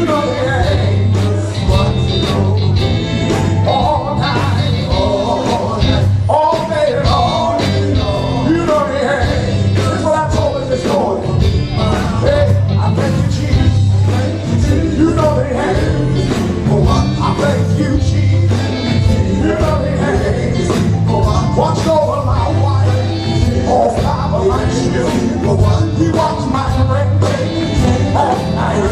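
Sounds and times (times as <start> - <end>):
bass: 0.0 - 28.9
person singing: 0.0 - 28.9
steady drum beat: 0.0 - 28.9.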